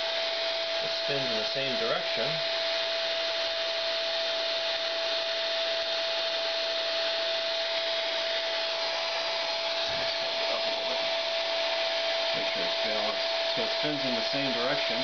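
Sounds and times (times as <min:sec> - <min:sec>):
hair dryer blowing with whine: 0:00.0 - 0:15.0.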